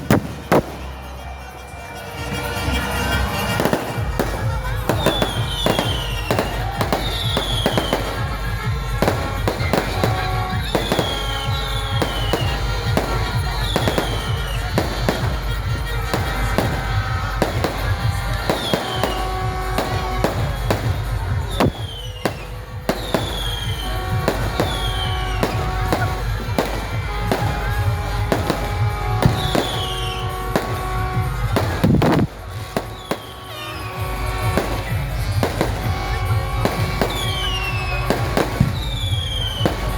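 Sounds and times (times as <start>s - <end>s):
fireworks bangs and crackles: 0.0s - 39.9s
music: 0.0s - 39.9s.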